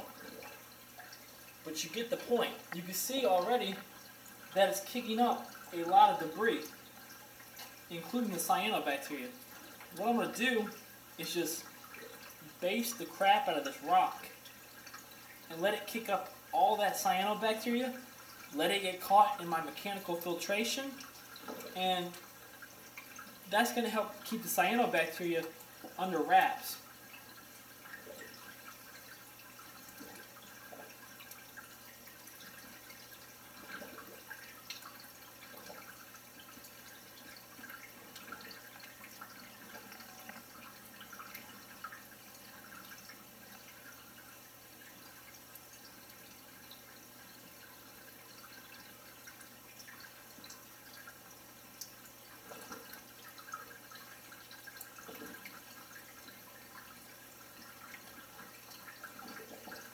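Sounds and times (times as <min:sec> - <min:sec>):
water trickling and dripping: 0:00.0 - 0:59.9.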